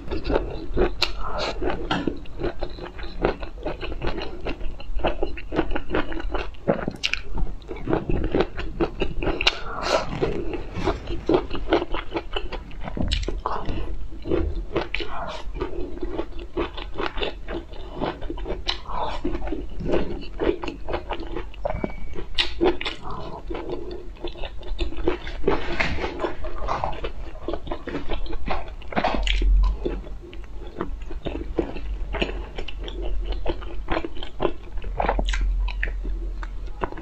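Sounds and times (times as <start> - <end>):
chewing and wet mouth sounds: 0.0 - 37.0.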